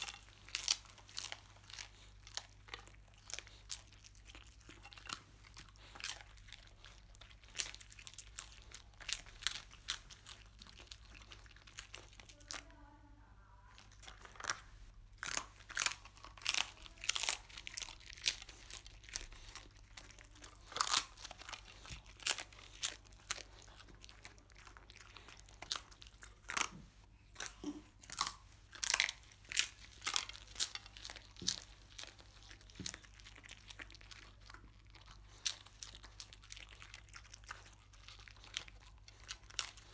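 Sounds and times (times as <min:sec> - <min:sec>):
dog crunching and chewing: 0:00.0 - 0:12.6, 0:13.8 - 0:39.9.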